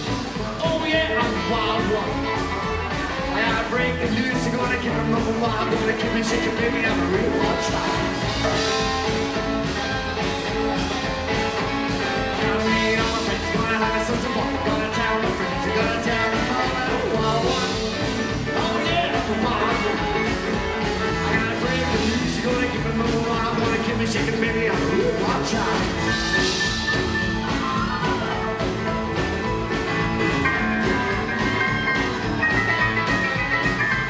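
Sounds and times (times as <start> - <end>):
rockabilly band playing: 0.0 - 34.0.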